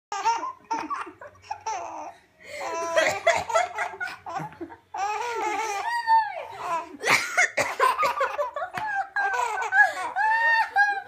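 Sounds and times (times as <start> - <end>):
baby laughing: 0.1 - 11.0.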